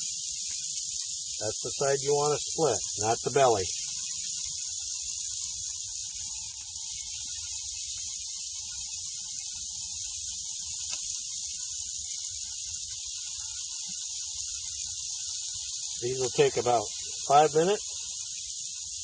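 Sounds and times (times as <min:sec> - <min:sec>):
faint crackles: 0:00.0 - 0:19.0
shrimp sizzling on a grill: 0:00.0 - 0:19.0.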